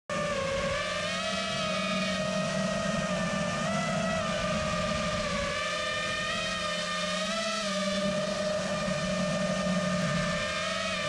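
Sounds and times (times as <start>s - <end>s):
drone motors whining: 0.1s - 11.0s.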